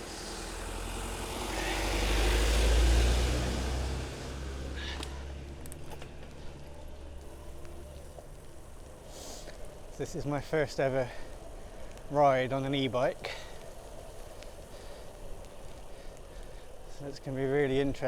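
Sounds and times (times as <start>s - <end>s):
vehicle passing on wet road: 0.0s - 18.0s.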